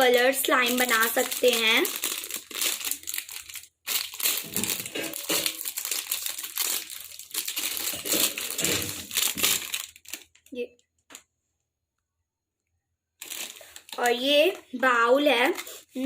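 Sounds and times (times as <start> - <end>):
plastic packaging crinkling: 0.0 - 11.2, 13.2 - 14.7, 15.4 - 16.0.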